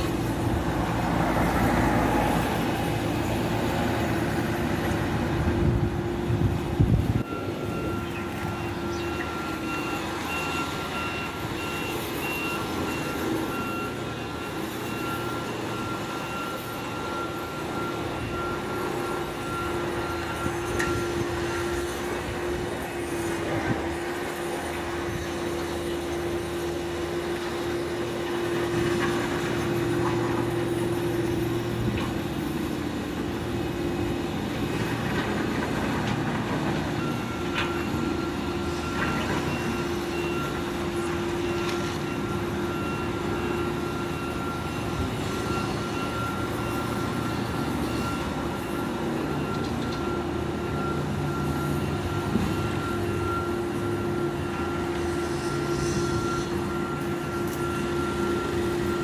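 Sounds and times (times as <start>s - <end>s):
constant whine: 0.0s - 59.0s
diesel engine drone: 0.0s - 59.0s.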